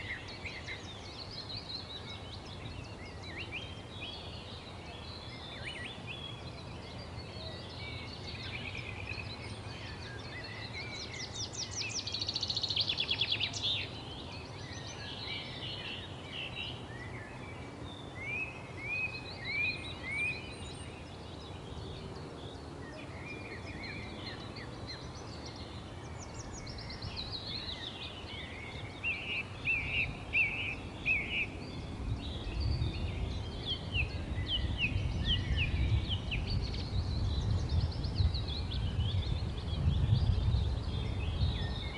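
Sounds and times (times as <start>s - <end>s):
birds chirping and singing: 0.0s - 41.9s.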